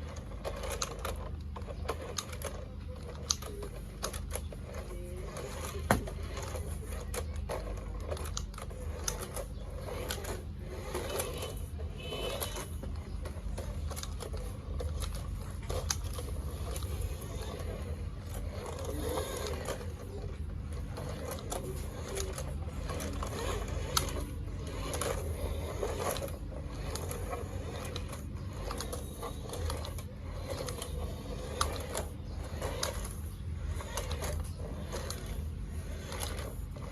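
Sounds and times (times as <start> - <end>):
toy car motor buzzing: 0.0 - 36.9.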